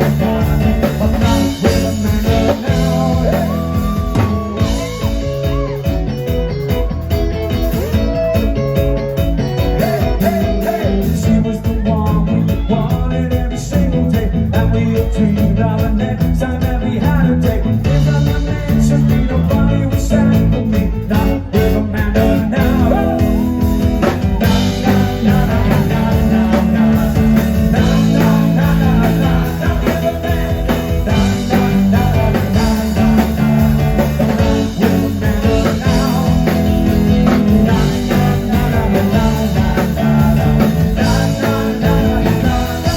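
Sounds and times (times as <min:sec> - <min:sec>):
person singing: 0:00.0 - 0:06.9, 0:07.6 - 0:42.9
bass guitar: 0:00.0 - 0:42.9
drums: 0:00.0 - 0:42.9
electric guitar: 0:00.0 - 0:42.9.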